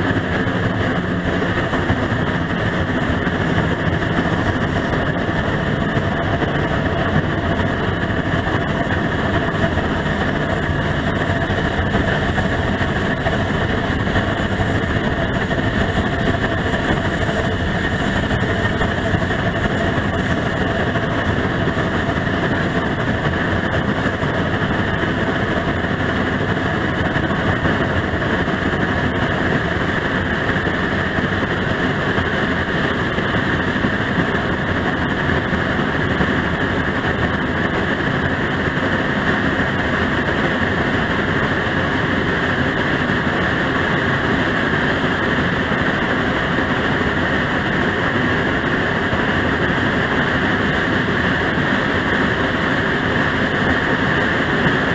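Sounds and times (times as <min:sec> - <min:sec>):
steam train running on rails: 0:00.0 - 0:54.9.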